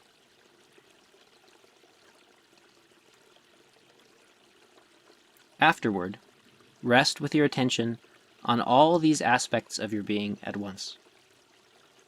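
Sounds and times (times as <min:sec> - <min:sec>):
faint running water: 0:00.0 - 0:12.0.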